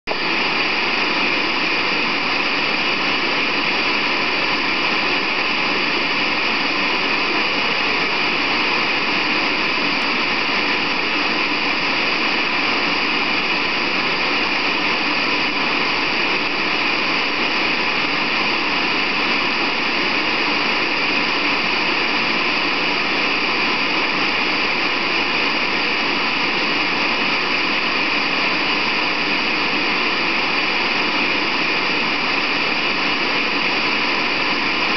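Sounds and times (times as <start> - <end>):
white noise hiss: 0.1 - 34.9.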